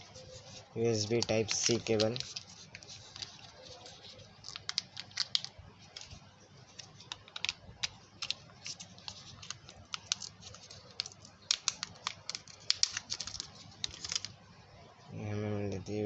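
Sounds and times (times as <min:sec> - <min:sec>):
packaging clicking and crinkling: 0:01.0 - 0:14.4.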